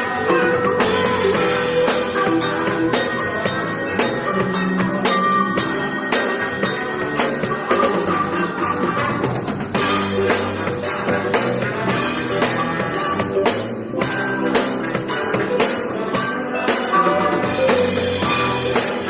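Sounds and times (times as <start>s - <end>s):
drum kit with bass and snare: 0.0s - 19.0s
worship band playing: 0.0s - 19.0s.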